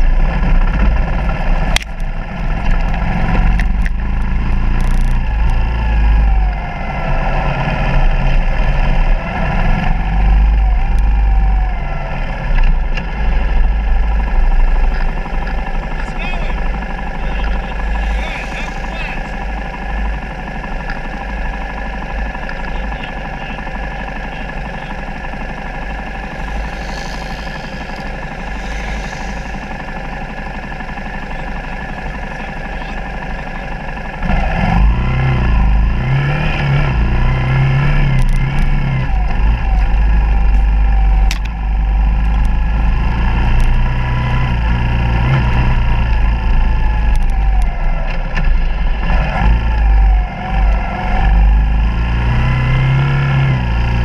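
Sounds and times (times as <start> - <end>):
motorcycle engine idling: 0.0 - 34.5, 38.1 - 52.0
motorcycle revving while riding: 0.0 - 54.0.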